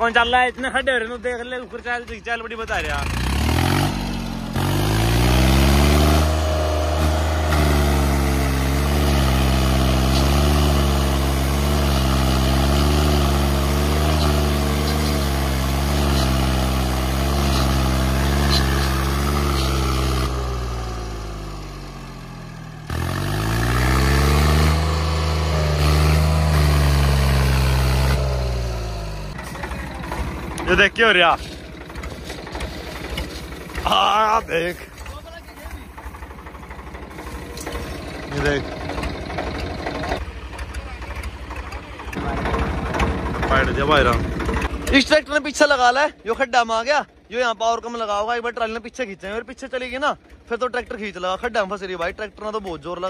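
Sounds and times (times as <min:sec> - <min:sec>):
tractor diesel engine straining: 0:00.0 - 0:53.0.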